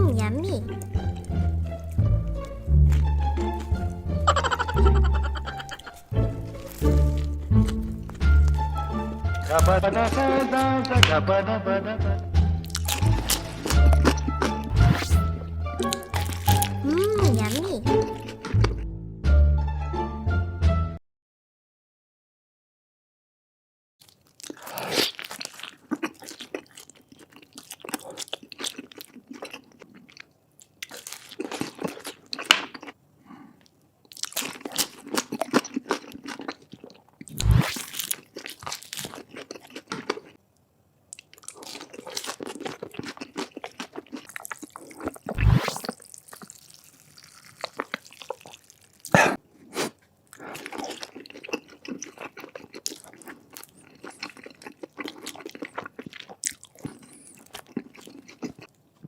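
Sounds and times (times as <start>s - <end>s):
crunchy chewing: 0.6s - 10.6s, 12.6s - 15.2s, 15.8s - 18.8s, 24.0s - 33.0s, 33.6s - 40.4s, 41.1s - 59.0s.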